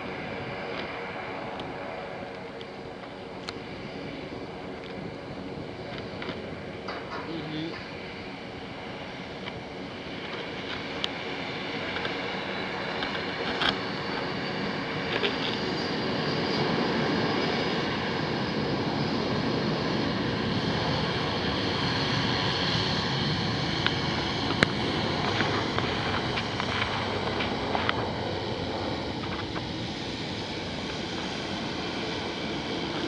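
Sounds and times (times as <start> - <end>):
jet engines spooling up: 0.0 - 33.0.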